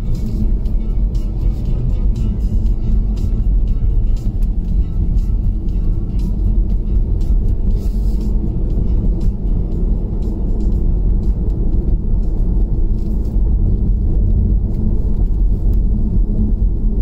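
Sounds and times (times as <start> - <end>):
tyre and road noise: 0.0 - 17.0.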